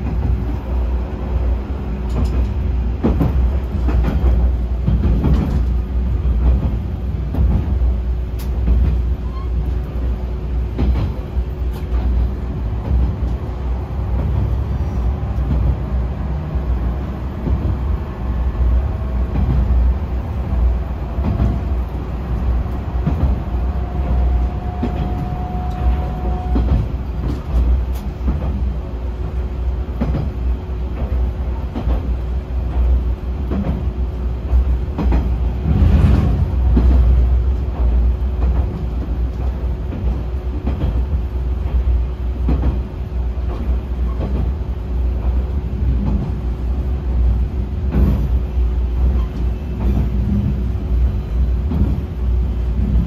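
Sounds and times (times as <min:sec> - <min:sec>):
railcar engine and wheels rumbling: 0:00.0 - 0:53.0.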